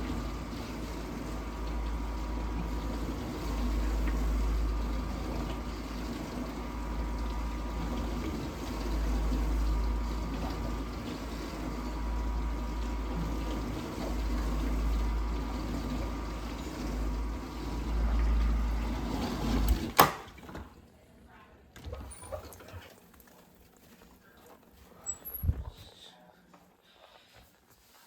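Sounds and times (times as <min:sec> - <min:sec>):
dishwasher pump running: 0:00.0 - 0:21.0, 0:21.6 - 0:25.8.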